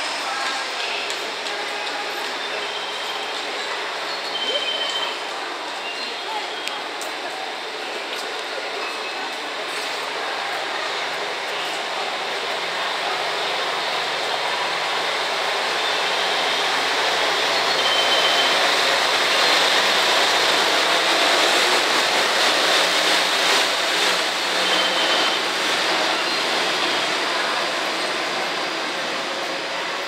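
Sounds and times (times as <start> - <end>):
diesel railcar rumble: 0.0 - 30.0.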